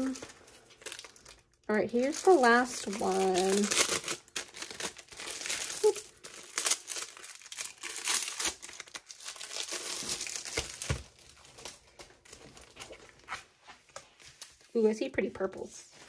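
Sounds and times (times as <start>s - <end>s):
packaging crinkling: 0.0s - 14.7s.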